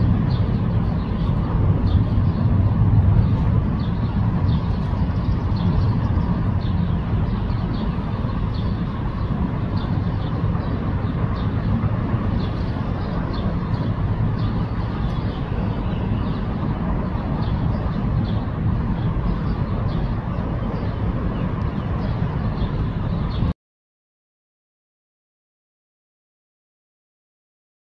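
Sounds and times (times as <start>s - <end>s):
low outdoor rumble: 0.0s - 23.6s.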